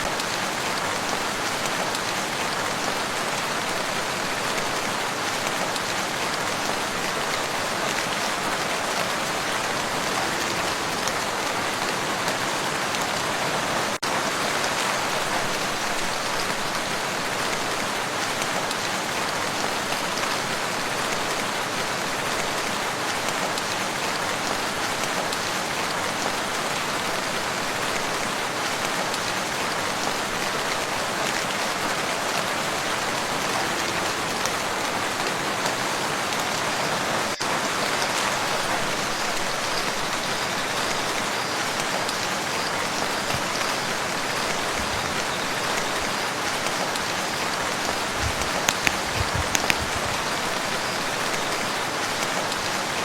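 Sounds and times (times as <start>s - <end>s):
rain falling on a lake: 0.0s - 53.0s.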